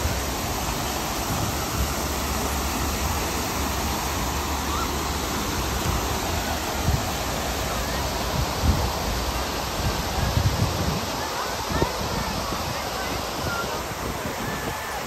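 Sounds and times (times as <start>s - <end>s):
water rushing through channel: 0.0s - 15.0s.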